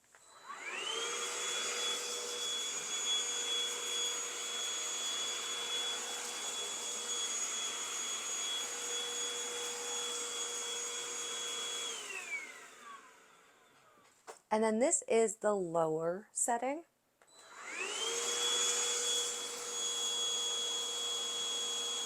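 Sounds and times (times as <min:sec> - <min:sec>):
vacuum cleaner motor whining: 0:00.2 - 0:14.1, 0:17.3 - 0:22.0.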